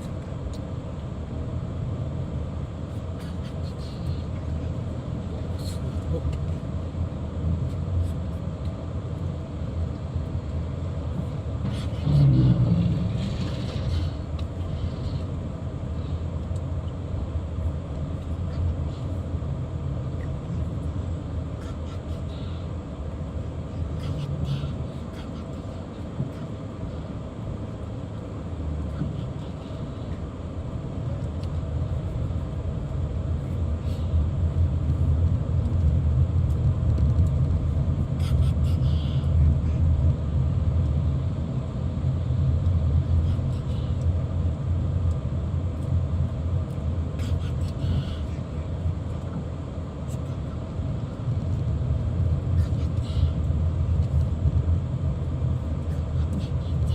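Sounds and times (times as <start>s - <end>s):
car driving on road: 0.0s - 56.9s.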